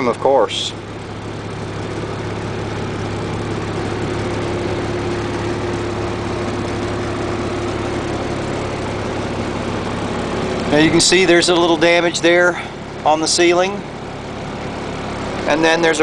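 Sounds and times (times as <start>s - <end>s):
engine idling from inside: 0.0s - 16.0s.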